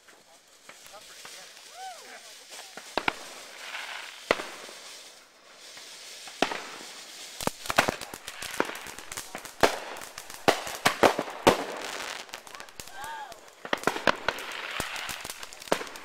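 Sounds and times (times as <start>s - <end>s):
fireworks bangs and pops: 0.0s - 16.0s
hiss of burning sparks: 0.0s - 16.0s.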